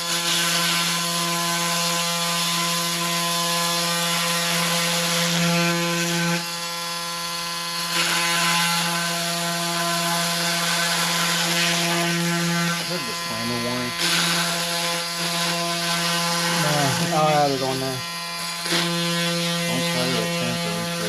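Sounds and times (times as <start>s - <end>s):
blade rasping through pad: 0.0s - 21.0s
power tool motor hum: 0.0s - 21.0s.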